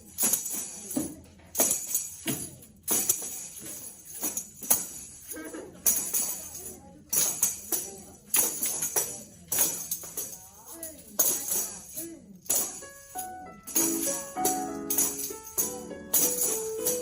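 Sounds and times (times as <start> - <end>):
tambourine struck in rhythm: 0.0 - 17.0.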